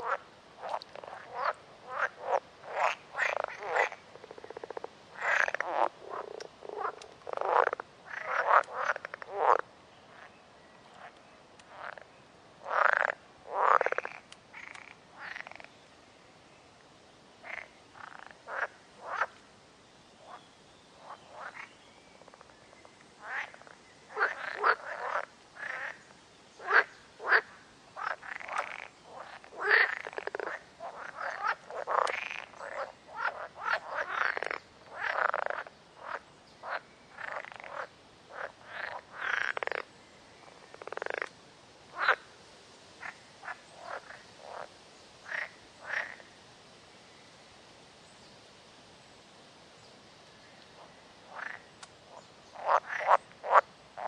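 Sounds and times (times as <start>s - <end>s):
frogs croaking: 0.0s - 15.8s, 17.4s - 19.5s, 20.2s - 20.4s, 21.0s - 42.4s, 43.0s - 46.4s, 50.6s - 54.0s.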